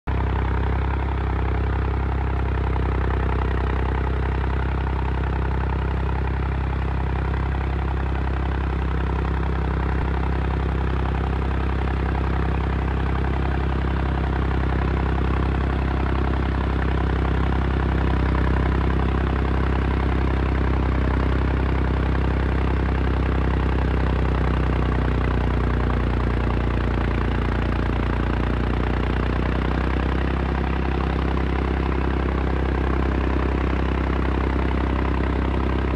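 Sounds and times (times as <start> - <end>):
tractor diesel engine under load: 0.1 - 35.9.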